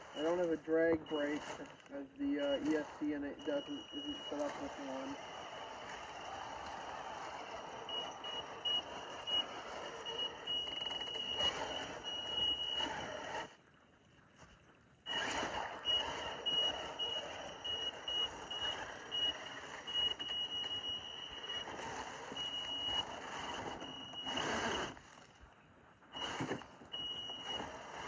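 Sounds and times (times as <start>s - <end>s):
electric motor whine: 0.0s - 13.6s, 15.1s - 25.0s, 26.2s - 28.0s
water and tyres on rock: 0.0s - 28.0s.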